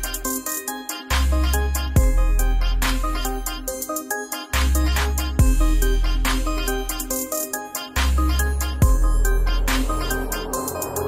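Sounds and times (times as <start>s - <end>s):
electronic music with synth and beat: 0.0s - 11.0s.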